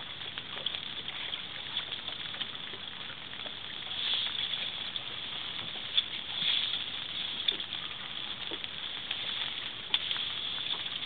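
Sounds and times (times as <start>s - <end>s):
river water washing against hull: 0.0s - 11.0s.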